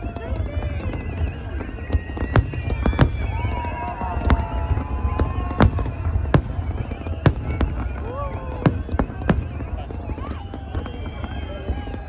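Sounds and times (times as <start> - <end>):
fireworks bangs: 0.0 - 12.0
high wavering whistles: 0.0 - 12.0.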